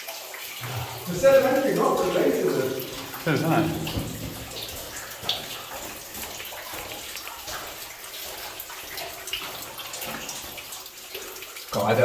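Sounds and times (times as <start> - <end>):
feet splashing through shallow water: 0.6 - 11.6.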